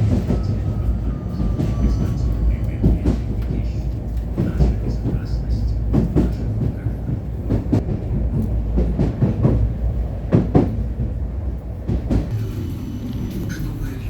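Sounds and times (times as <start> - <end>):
tram rumbling along track: 0.0 - 14.0.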